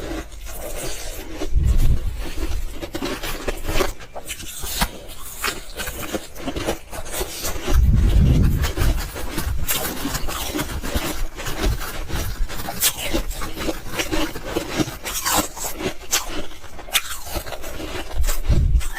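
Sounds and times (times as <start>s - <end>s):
ice crunching as chewed: 0.0s - 18.9s.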